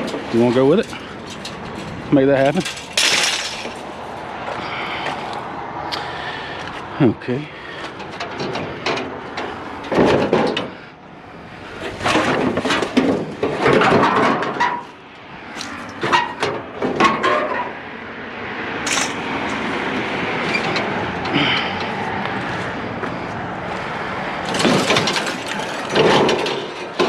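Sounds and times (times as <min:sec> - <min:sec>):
scrap metal clanking and scraping: 0:00.0 - 0:05.3, 0:07.6 - 0:17.8, 0:18.8 - 0:27.0.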